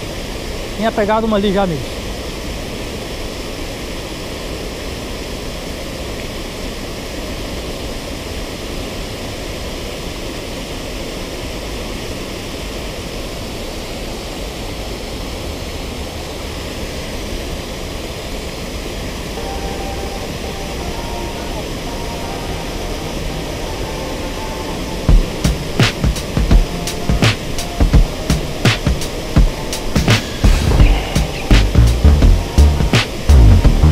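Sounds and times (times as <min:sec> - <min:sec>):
water rushing over weir: 0:00.0 - 0:33.9.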